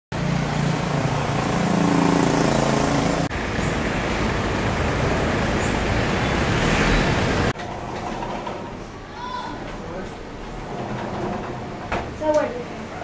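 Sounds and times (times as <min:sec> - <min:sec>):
road traffic rushing: 0:00.1 - 0:13.0.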